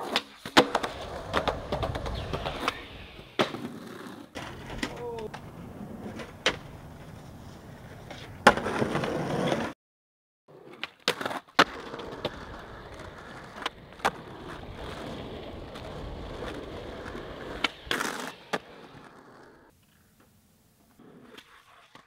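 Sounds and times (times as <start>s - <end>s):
skateboard clacks and pops: 0.0s - 2.8s, 3.4s - 9.7s, 10.5s - 20.4s
skateboard grinding on concrete curb: 0.0s - 9.7s, 10.5s - 19.7s
skateboard scraping: 0.0s - 9.8s, 10.5s - 22.0s
skateboard wheels rolling on asphalt: 0.0s - 9.8s, 10.5s - 22.0s.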